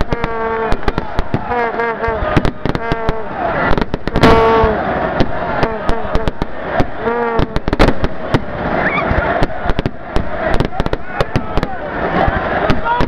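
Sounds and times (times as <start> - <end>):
firecrackers banging: 0.0 - 13.0
stadium crowd voices: 0.0 - 13.0.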